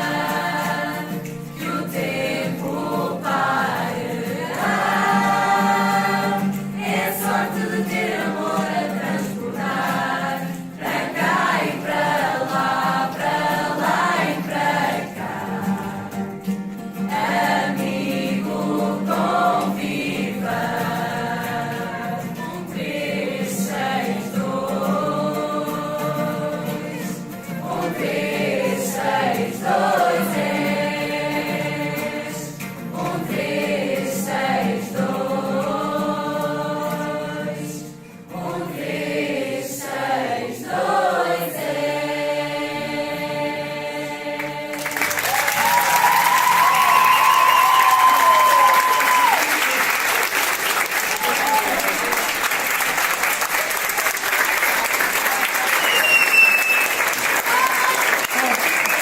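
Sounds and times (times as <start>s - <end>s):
choir singing: 0.0s - 52.8s.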